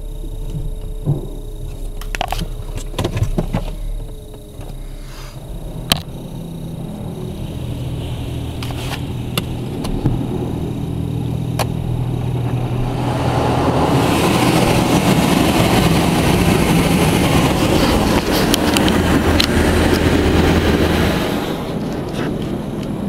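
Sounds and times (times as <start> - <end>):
steady low hum: 0.0 - 23.0
water jets drumming on car: 0.0 - 23.0.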